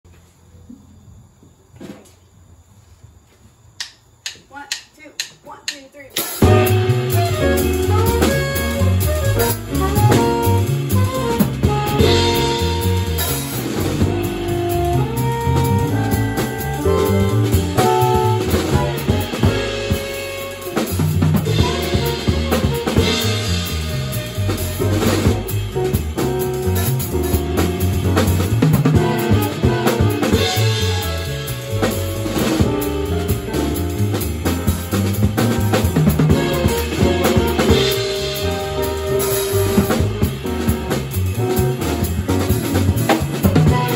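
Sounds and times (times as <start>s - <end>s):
jazz band playing: 6.2s - 43.9s
saxophone melody: 6.4s - 43.9s.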